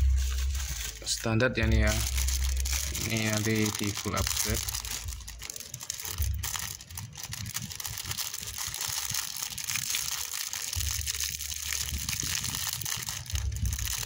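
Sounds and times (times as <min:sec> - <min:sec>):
low rumbles: 0:00.0 - 0:09.8, 0:10.8 - 0:14.0
plastic bag crinkling: 0:00.0 - 0:14.0.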